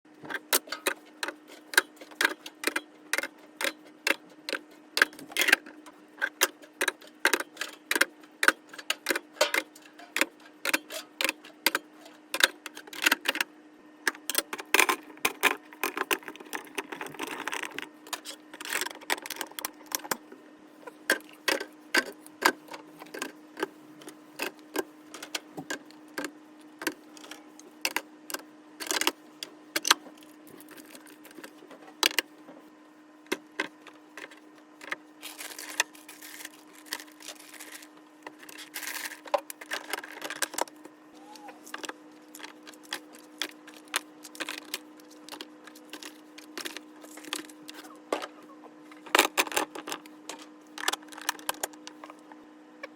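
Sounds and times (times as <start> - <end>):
steady low hum: 0.1 - 52.9.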